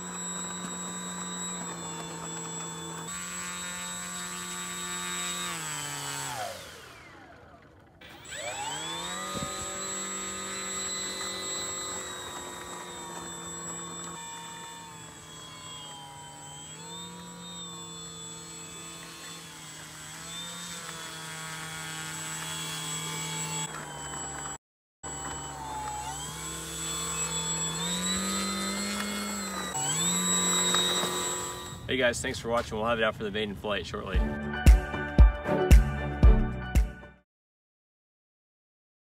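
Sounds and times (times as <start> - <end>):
electric motor and propeller whine: 0.0 - 32.4.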